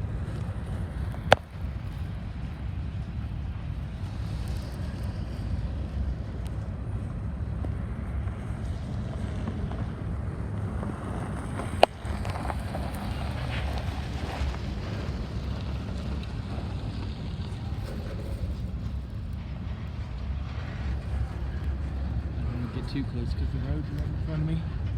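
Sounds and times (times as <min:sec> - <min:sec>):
freight train rumbling: 0:00.0 - 0:24.9
wind buffeting microphone: 0:00.0 - 0:24.9.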